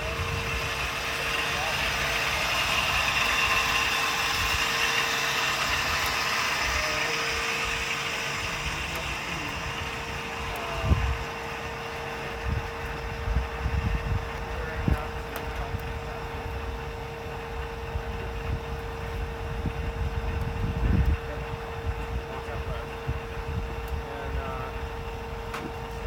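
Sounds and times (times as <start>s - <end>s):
turbojet engine whine: 0.0s - 26.0s.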